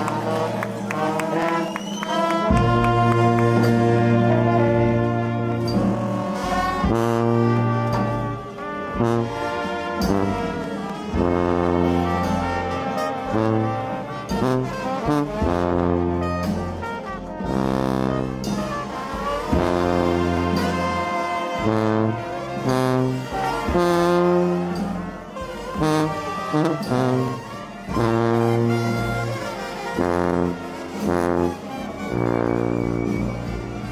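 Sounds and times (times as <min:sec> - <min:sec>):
trumpets and trombones playing riffs: 0:00.0 - 0:33.9.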